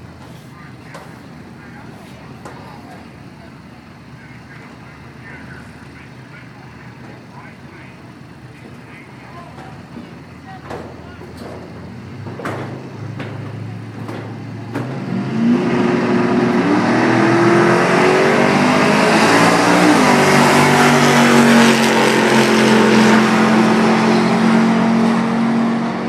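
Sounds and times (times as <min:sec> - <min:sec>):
pickup truck accelerating hard: 0:00.0 - 0:26.0.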